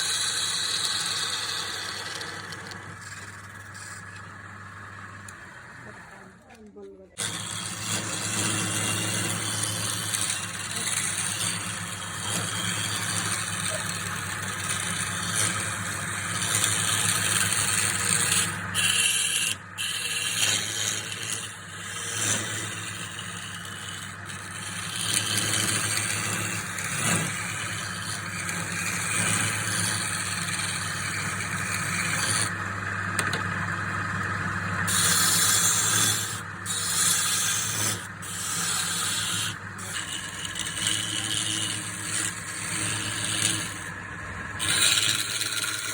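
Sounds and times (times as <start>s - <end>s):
lathe motor hum: 0.0s - 45.9s
tool scraping spinning wood: 0.0s - 45.9s.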